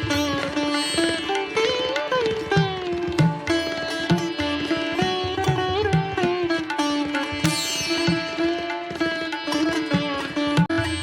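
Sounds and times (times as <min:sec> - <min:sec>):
plucked melody with pitch bends: 0:00.0 - 0:11.0.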